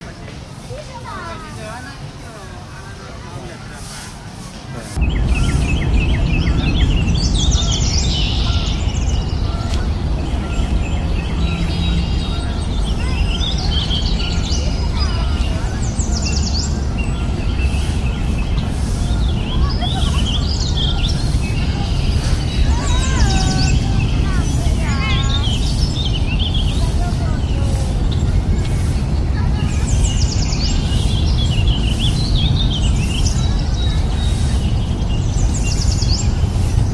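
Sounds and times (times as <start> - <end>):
small birds chirping: 0.4 - 36.9
high falling bird notes: 5.0 - 34.8
steady low rumble: 5.0 - 36.9.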